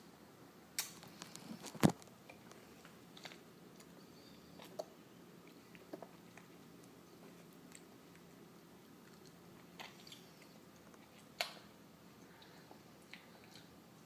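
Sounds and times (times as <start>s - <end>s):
cherries being chewed: 0.8s - 14.0s.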